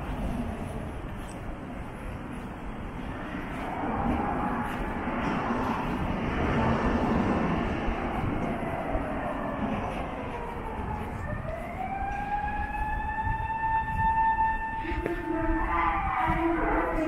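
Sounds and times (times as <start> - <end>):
steady background rumble: 0.0 - 17.0
emergency siren wailing: 3.3 - 17.0.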